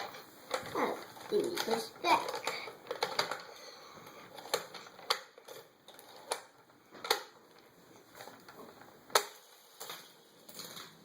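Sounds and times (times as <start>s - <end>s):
plastic toy cars clicking: 0.0s - 11.0s.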